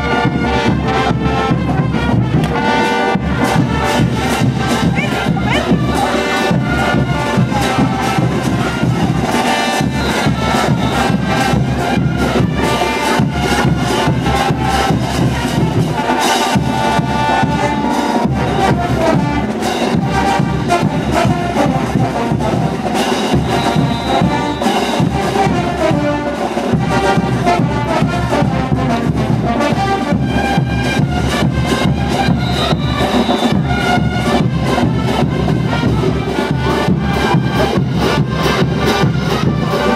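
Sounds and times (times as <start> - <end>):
brass band playing: 0.0 - 39.9
steady drum beat: 0.0 - 39.9.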